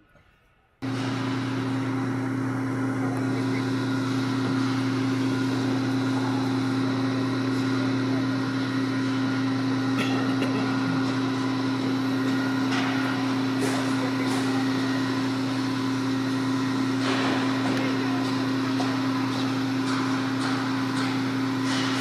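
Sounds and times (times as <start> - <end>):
diesel engine humming: 0.8 - 21.8.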